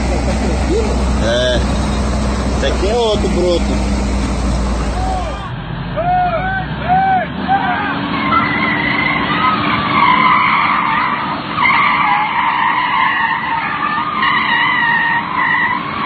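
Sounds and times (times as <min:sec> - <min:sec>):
vehicle engine revving high: 0:00.0 - 0:16.0.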